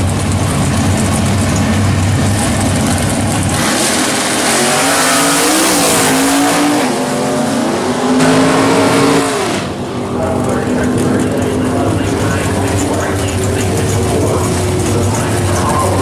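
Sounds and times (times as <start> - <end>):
drag race engines revving: 0.0 - 16.0.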